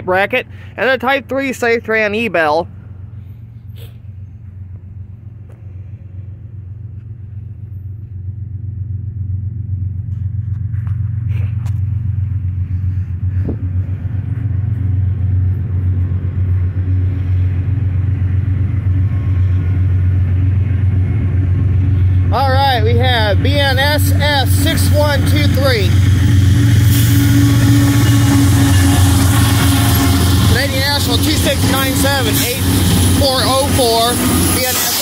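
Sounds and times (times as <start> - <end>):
freight train locomotive rumble: 0.0 - 35.0.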